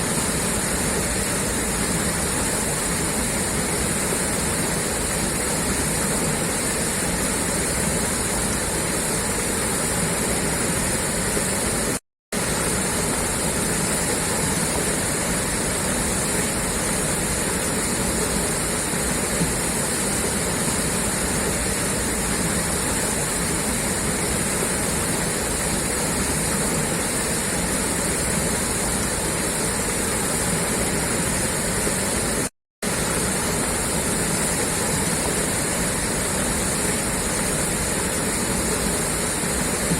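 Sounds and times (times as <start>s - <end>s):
water gushing from a pipe: 0.0s - 39.9s.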